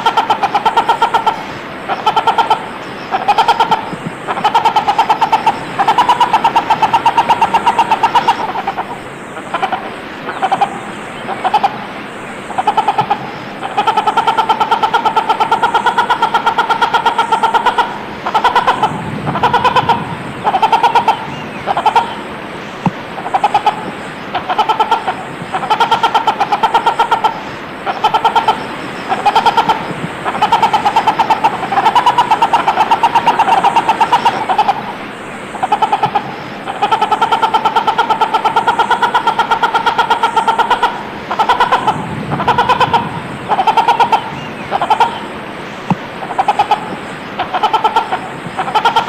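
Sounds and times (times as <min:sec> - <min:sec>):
hornbill calling: 0:00.0 - 0:49.0.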